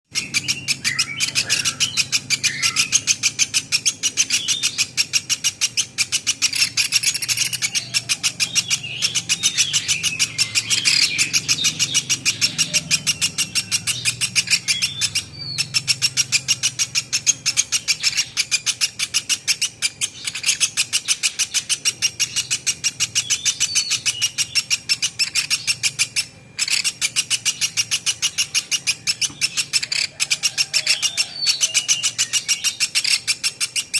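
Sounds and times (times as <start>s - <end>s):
bird calling with sharp high notes: 0.1s - 33.9s.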